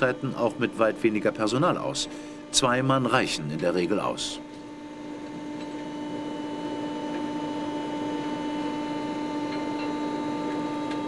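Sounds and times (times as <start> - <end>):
electric machinery hum: 0.0 - 11.0.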